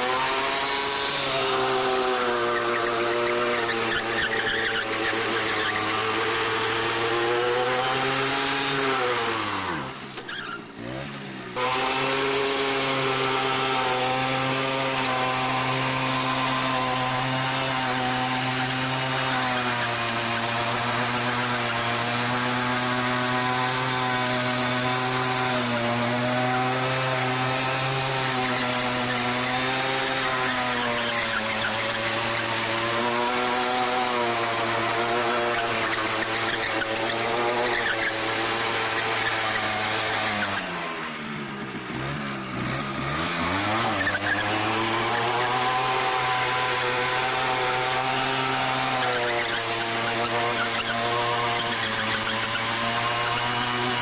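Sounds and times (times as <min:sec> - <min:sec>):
two-stroke moped engine revving: 0:00.0 - 0:54.0.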